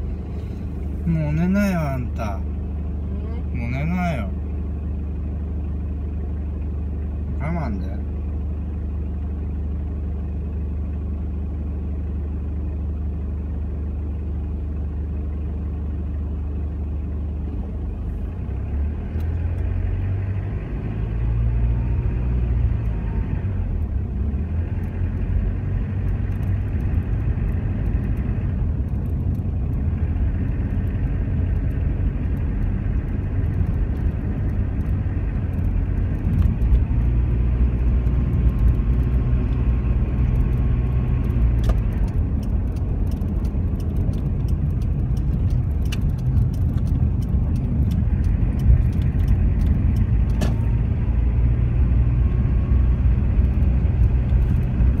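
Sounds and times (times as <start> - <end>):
car engine idling: 0.0 - 55.0
road rumble: 0.0 - 55.0.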